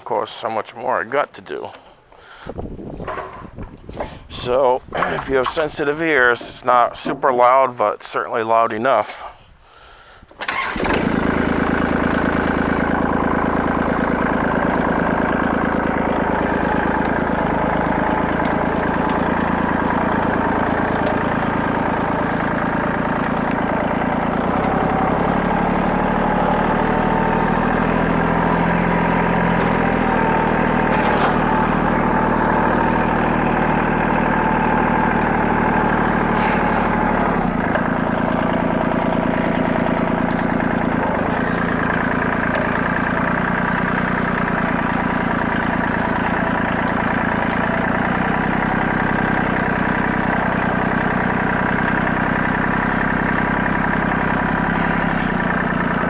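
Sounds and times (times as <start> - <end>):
tractor engine running: 0.0 - 9.2, 10.2 - 56.0.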